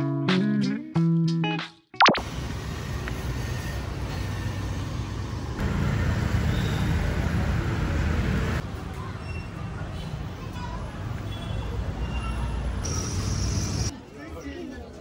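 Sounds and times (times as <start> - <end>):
street traffic rumble: 2.2 - 15.0.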